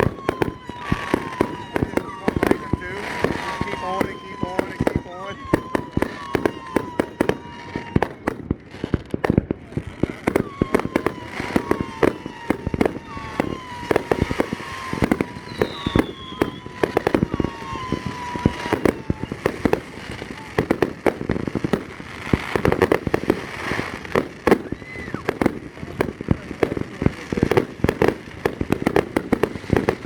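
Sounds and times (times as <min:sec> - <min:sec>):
fireworks bangs and crackling: 0:00.0 - 0:30.0
fireworks whistling: 0:00.0 - 0:30.0.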